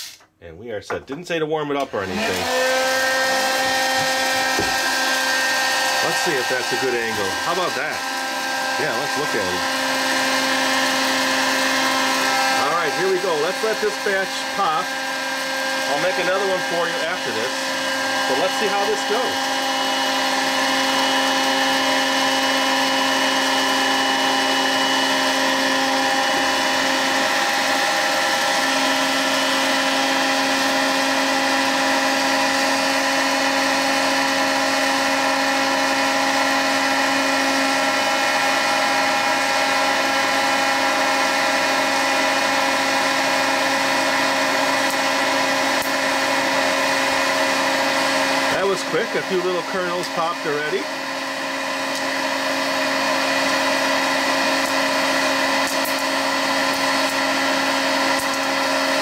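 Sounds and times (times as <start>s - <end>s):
popcorn popper fan whirring: 1.8s - 59.0s.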